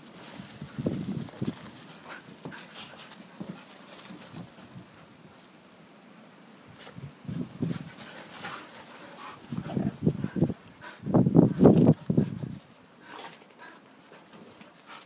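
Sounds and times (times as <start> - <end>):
dogs playing in deep snow: 0.0 - 15.0
dogs panting: 1.3 - 5.2, 6.7 - 15.0.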